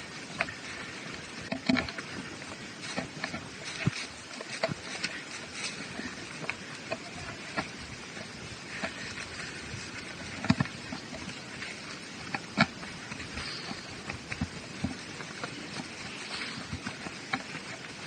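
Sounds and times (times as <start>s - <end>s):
running footsteps on muddy trail: 0.0s - 18.0s
steady hiss: 0.0s - 18.0s.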